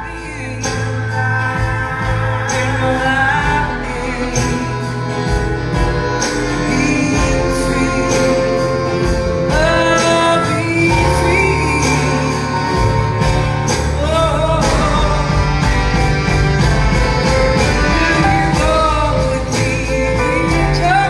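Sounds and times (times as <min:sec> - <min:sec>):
live band music: 0:00.0 - 0:21.0.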